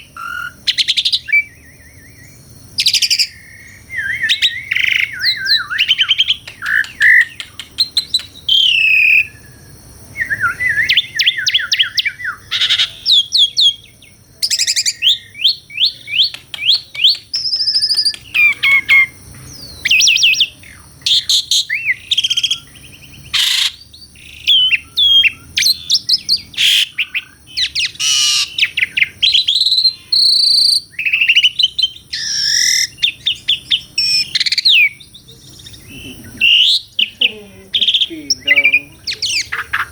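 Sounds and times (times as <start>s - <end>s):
starling singing whistles and chatter: 0.0s - 39.9s.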